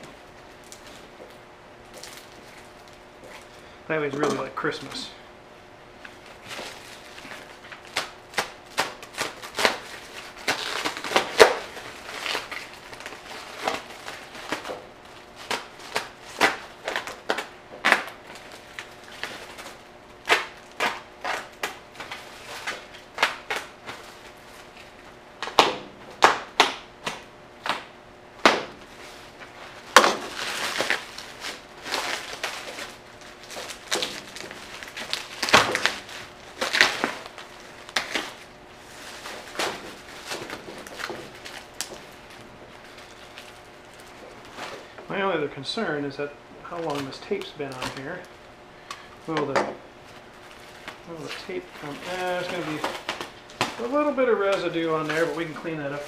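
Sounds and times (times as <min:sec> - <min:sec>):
plastic wrap tearing: 0:00.0 - 0:05.0, 0:06.0 - 0:45.9, 0:46.7 - 0:56.0
plastic wrap crinkling: 0:00.0 - 0:05.2, 0:06.0 - 0:27.4, 0:28.7 - 0:56.0.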